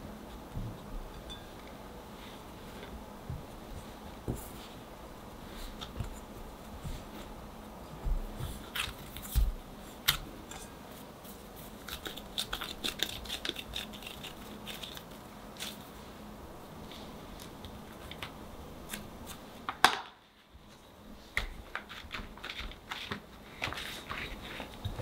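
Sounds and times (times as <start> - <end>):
hands kneading sticky dough: 2.1 - 19.8, 20.6 - 25.0.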